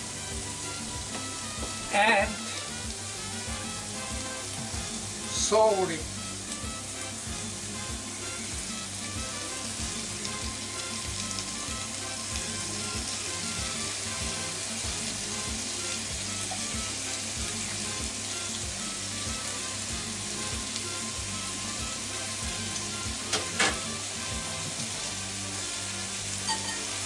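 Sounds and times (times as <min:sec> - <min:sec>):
vegetables sizzling in a frying pan: 0:00.0 - 0:27.0.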